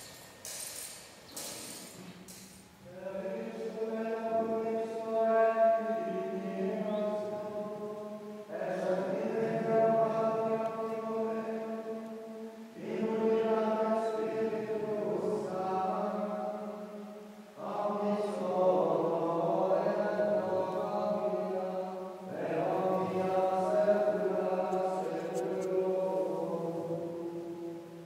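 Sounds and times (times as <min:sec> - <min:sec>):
low male chant: 0:02.8 - 0:28.0.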